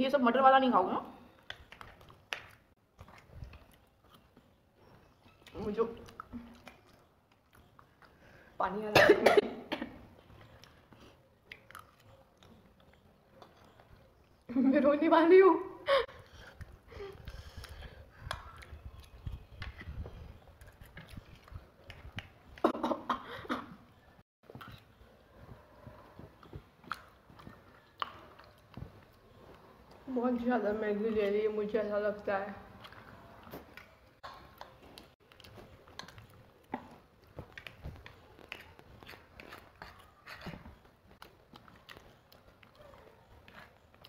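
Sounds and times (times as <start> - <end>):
chewing: 1.3 - 8.6, 10.1 - 14.6, 16.1 - 22.7, 24.4 - 44.0.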